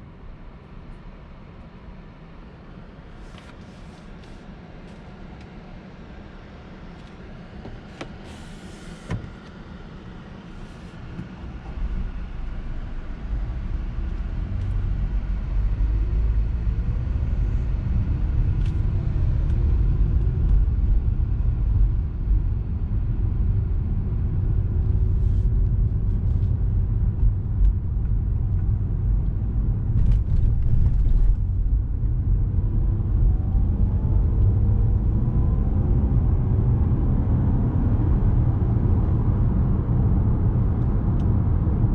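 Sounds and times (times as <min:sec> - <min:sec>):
car engine rumble: 0:00.0 - 0:41.9
road noise: 0:06.8 - 0:41.9.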